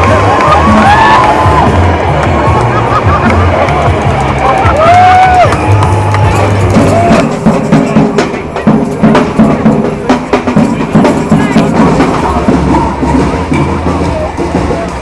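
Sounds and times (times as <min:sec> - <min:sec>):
drums and percussion beat: 0:00.0 - 0:15.0.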